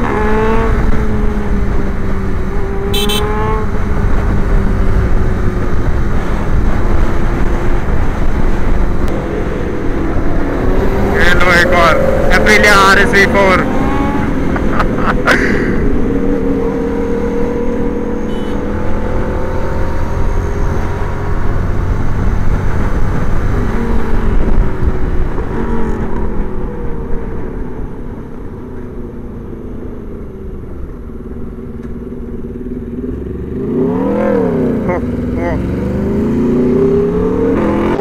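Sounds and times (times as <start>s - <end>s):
motorcycle engine revving: 0.0s - 29.5s, 31.0s - 38.0s.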